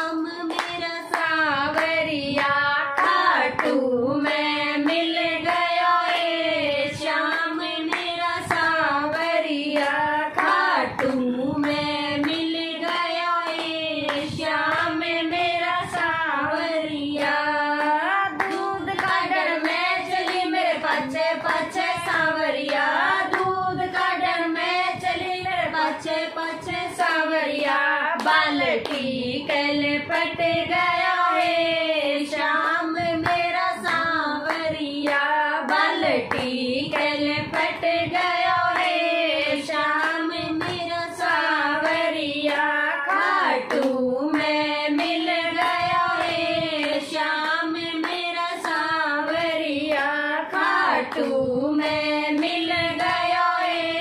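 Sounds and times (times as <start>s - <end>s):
rhythmic hand-clapping: 0.0s - 54.0s
women singing together: 0.0s - 54.0s.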